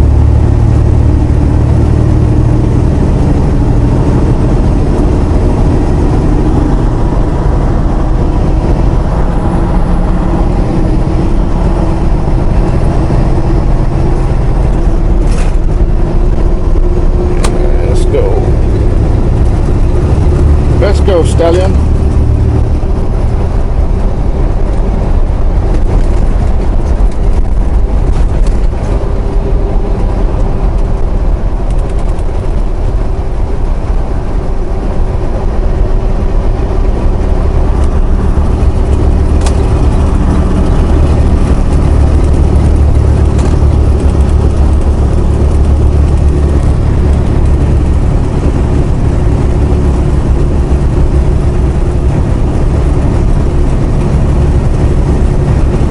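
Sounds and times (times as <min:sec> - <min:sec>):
diesel truck engine pulling: 0:00.0 - 0:55.9
tyre and road noise: 0:00.0 - 0:55.9.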